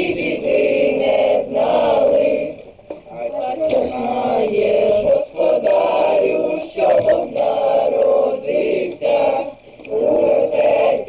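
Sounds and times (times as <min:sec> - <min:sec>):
group singing a carol: 0:00.0 - 0:11.0.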